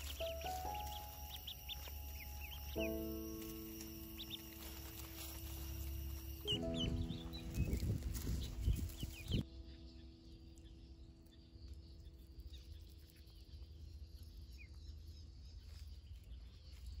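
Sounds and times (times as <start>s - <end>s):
low rumble: 0.0s - 15.7s
ducklings peeping: 0.0s - 17.0s.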